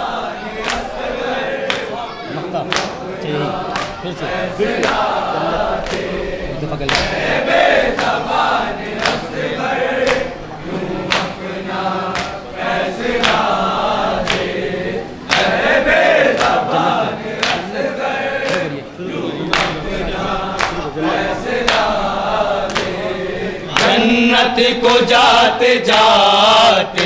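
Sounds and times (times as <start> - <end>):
men chanting in chorus: 0.0 - 27.0.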